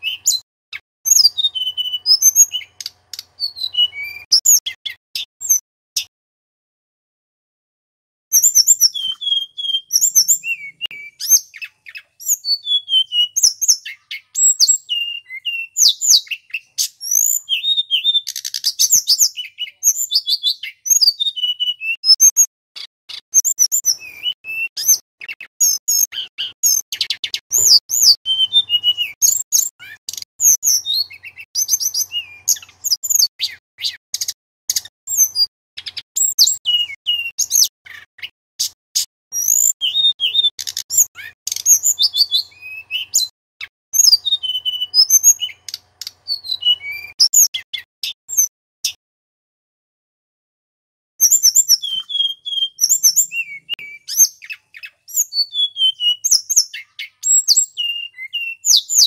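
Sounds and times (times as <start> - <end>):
flycatcher singing: 1.1 - 5.6, 8.4 - 38.7, 39.4 - 48.5, 51.2 - 59.0.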